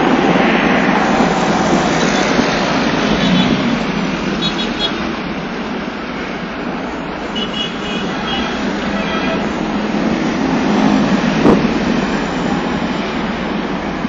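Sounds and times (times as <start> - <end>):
vehicle road and engine noise: 0.0 - 14.0.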